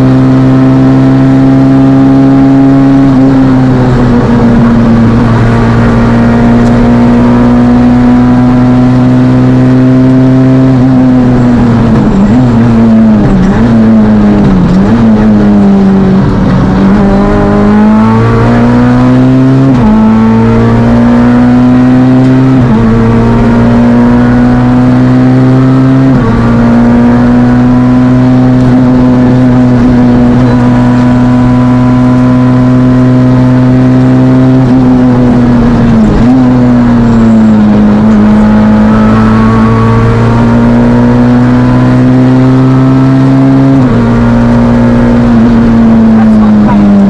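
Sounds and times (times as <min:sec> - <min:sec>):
rally car engine revving hard: 0:00.0 - 0:47.0.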